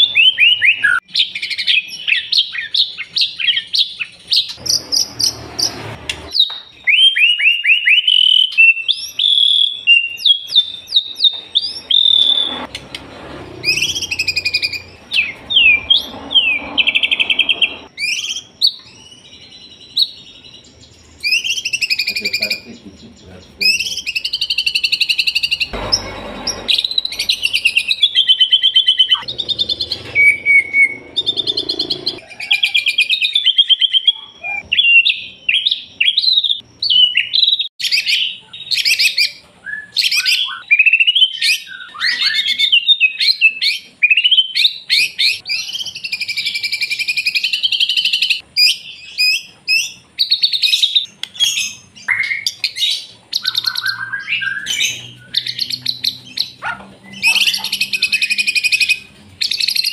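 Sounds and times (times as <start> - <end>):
songbird singing trills and whistles: 0.0 - 12.8, 13.6 - 25.8, 26.8 - 59.9.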